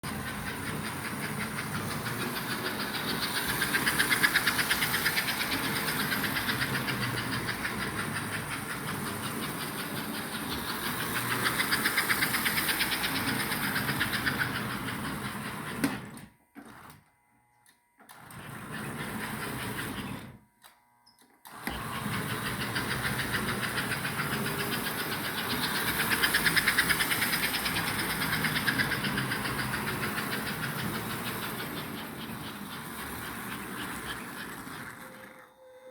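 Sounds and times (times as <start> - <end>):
rapid clicking of toy train wheels: 0.0 - 17.0, 17.6 - 35.9
electric motor whirring: 0.1 - 35.9.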